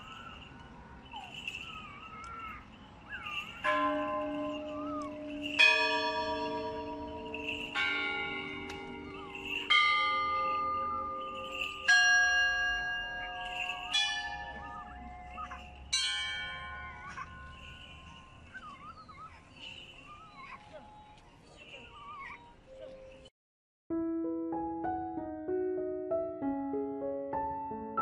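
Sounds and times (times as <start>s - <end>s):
bells ringing: 0.0s - 23.3s.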